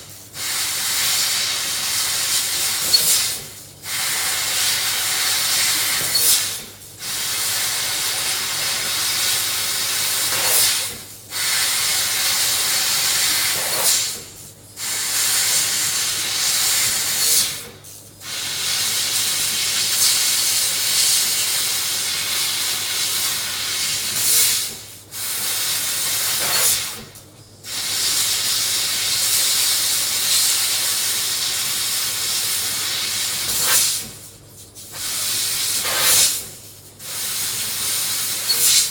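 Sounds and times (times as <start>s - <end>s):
laser cutter air hiss: 0.0s - 38.9s.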